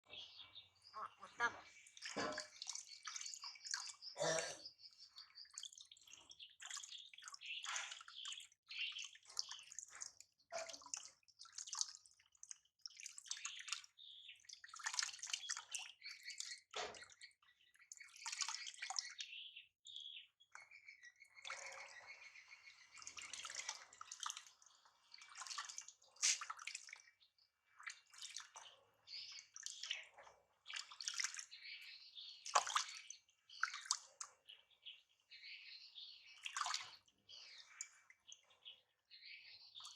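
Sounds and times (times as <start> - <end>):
water splashing and pattering: 0.0 - 39.9.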